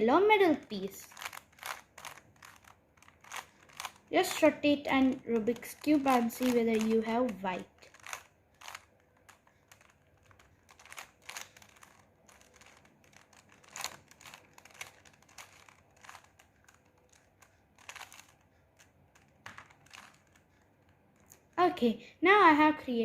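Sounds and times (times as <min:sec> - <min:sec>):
puzzle cube plastic clicks: 0:00.8 - 0:21.6.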